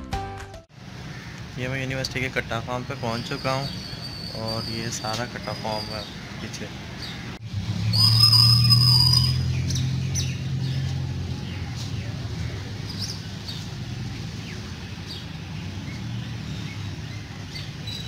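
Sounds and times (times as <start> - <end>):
birds chirping: 0.9 - 18.0.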